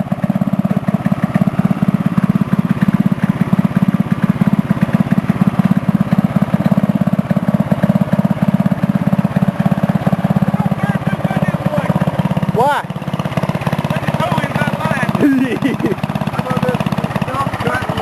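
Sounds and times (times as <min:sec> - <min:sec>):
lawn mower engine idling: 0:00.0 - 0:18.0.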